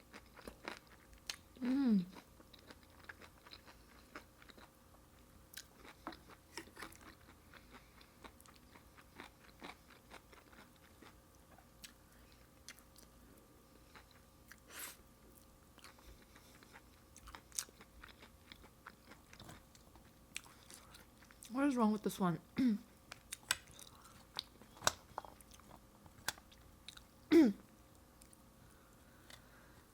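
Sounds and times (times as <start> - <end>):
chewing and crunching: 0.0 - 4.8, 5.5 - 14.7, 15.3 - 21.5, 23.0 - 27.3
faint steady hum: 0.0 - 29.9.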